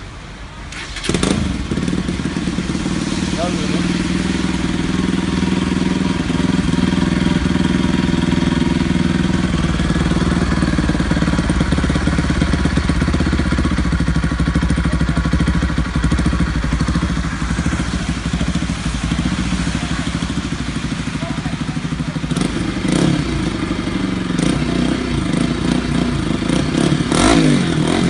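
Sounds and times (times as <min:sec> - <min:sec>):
motorcycle engine idling: 0:00.8 - 0:28.0.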